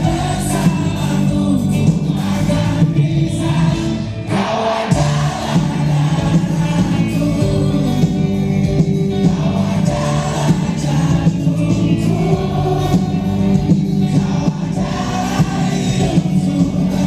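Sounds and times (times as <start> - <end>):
bass guitar: 0.0 - 17.0
drums: 0.0 - 17.0
electric guitars: 0.0 - 17.0
person singing: 0.0 - 17.0.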